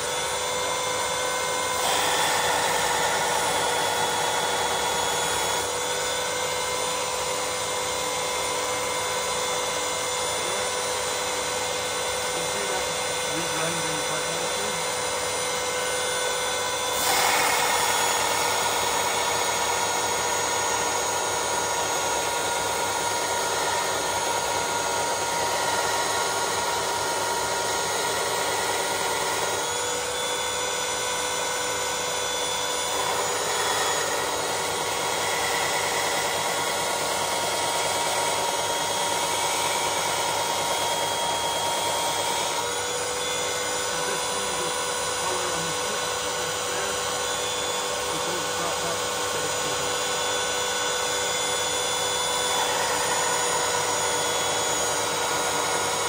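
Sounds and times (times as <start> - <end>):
belt sander motor whine: 0.0 - 56.0.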